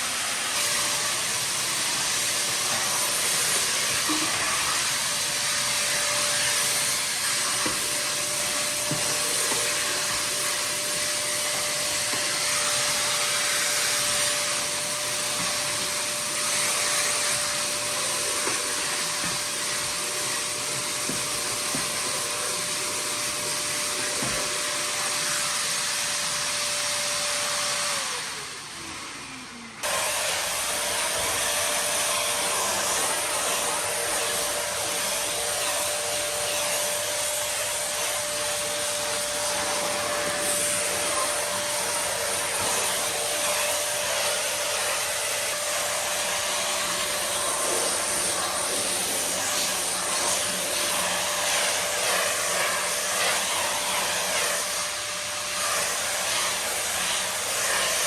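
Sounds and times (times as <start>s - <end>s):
vacuum cleaner motor whine: 0.0s - 58.0s.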